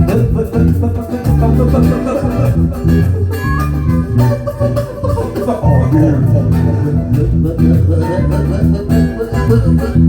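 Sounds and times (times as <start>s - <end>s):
bass guitar low notes: 0.0s - 10.0s
funk band playing: 0.0s - 10.0s.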